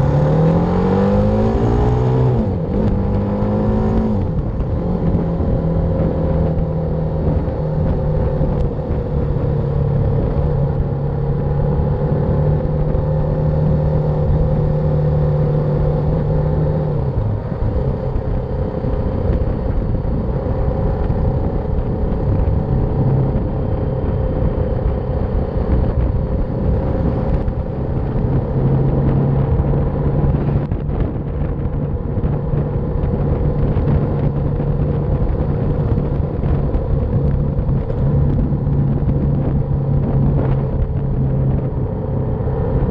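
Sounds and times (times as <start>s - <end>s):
motorcycle engine cruising: 0.0s - 42.9s
rush of riding wind: 0.0s - 42.9s.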